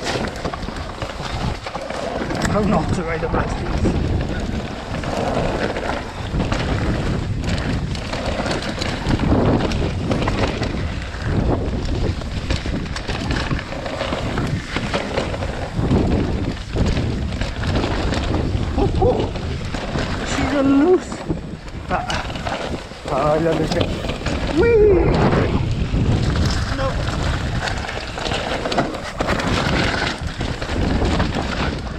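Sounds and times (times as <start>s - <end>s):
tyre noise on muddy ground: 0.0s - 10.9s, 12.6s - 24.6s, 25.2s - 31.9s
bike knocking and rattling: 0.0s - 31.9s
wind buffeting microphone: 0.0s - 31.9s.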